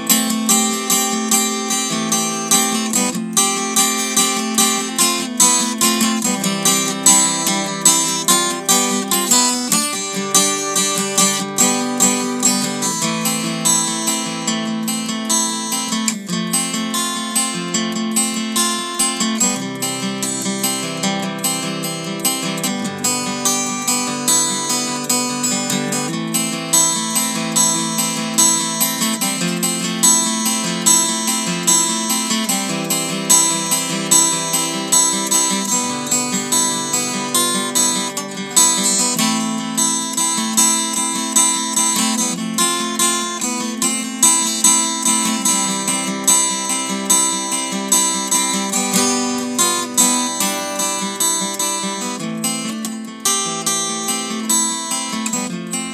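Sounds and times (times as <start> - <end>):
acoustic guitar plucking: 0.0 - 55.9.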